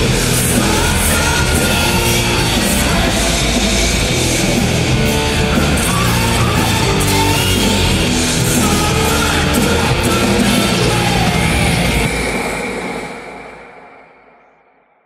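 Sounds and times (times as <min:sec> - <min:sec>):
heavy rock music: 0:00.0 - 0:14.5.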